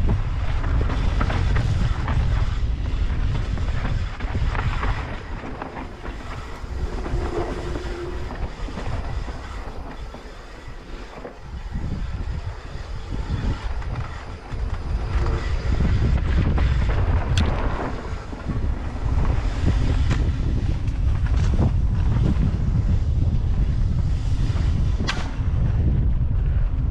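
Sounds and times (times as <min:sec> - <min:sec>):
tyres rumbling on dirt: 0:00.0 - 0:26.6
bike clacks: 0:00.0 - 0:26.9
wind buffeting microphone: 0:00.0 - 0:26.9.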